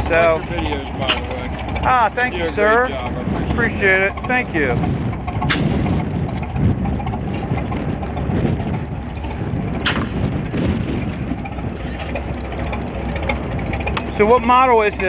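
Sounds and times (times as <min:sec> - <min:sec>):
fine rapid ticking: 0:00.0 - 0:15.0
tractor engine idling: 0:00.0 - 0:15.0.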